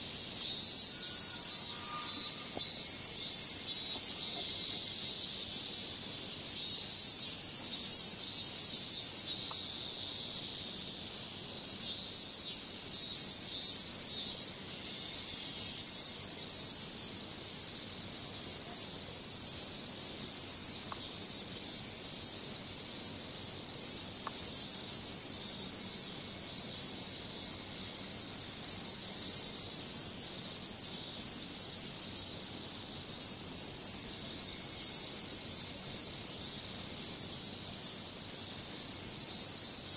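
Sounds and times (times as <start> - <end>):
cicadas droning: 0.0 - 39.9
insect pulsed chirping: 0.0 - 39.9.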